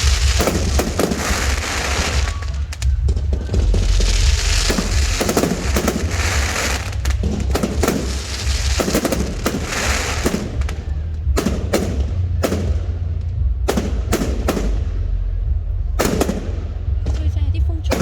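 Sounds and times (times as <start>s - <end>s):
fireworks bangs: 0.0s - 18.0s
fireworks crackling shower: 0.0s - 18.0s
low rumble: 0.0s - 18.0s.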